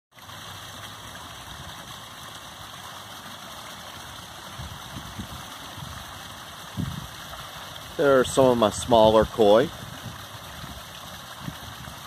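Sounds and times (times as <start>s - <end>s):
waterfall splashing into pond: 0.1s - 12.0s.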